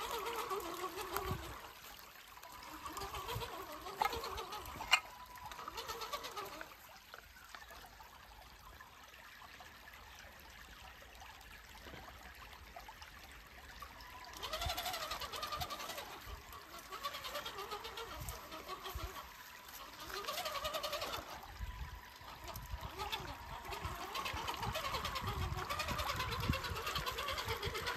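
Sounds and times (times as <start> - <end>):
creek water trickling: 0.0 - 27.9.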